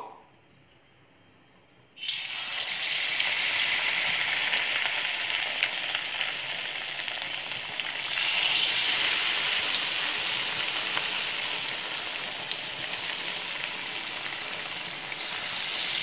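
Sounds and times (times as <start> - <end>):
oil sizzling and crackling: 2.0 - 16.0.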